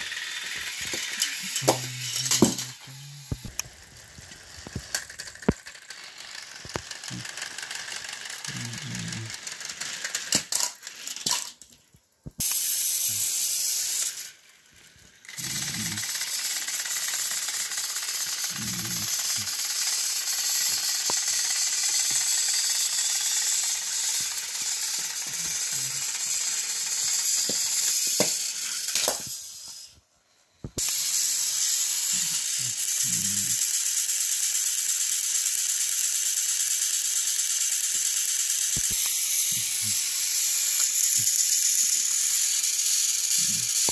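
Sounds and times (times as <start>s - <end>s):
toy train motors whirring: 0.0s - 43.9s.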